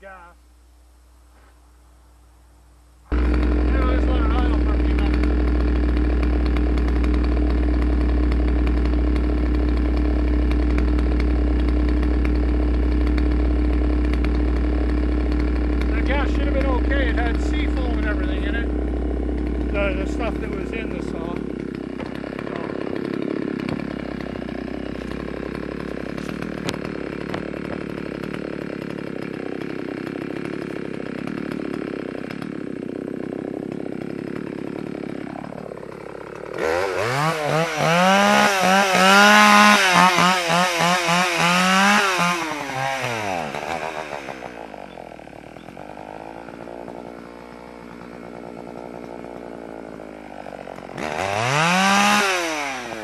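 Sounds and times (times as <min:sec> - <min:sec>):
chainsaw idling and revving: 0:03.1 - 0:53.0.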